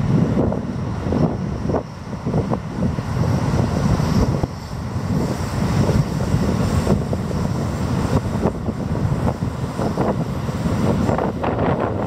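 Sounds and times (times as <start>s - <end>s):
train rumble on bridge: 0.0s - 12.0s.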